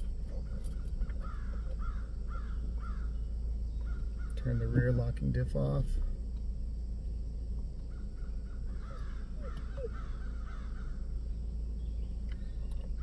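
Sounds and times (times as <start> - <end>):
vehicle rumble inside cab: 0.0 - 13.0.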